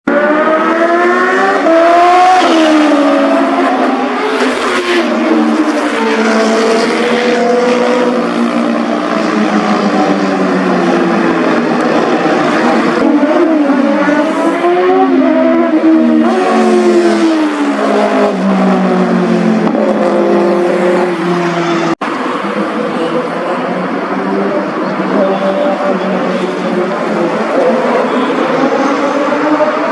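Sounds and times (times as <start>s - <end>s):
motorcycles revving and accelerating: 0.1s - 29.9s.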